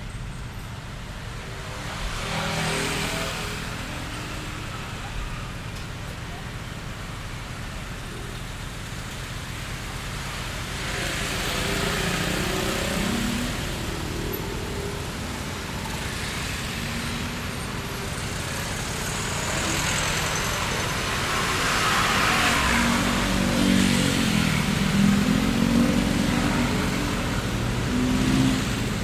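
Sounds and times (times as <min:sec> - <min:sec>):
road noise: 0:00.0 - 0:29.0
cars passing: 0:01.3 - 0:06.0, 0:06.6 - 0:29.0.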